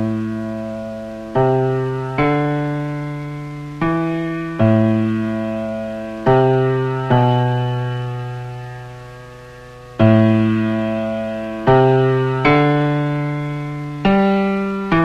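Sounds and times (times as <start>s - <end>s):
slow low keyboard notes: 0.0s - 15.0s.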